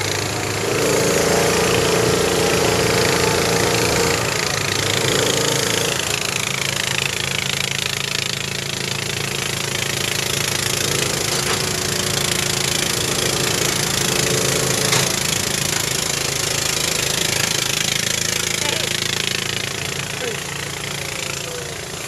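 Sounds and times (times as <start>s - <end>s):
buggy engine running: 0.0s - 22.0s.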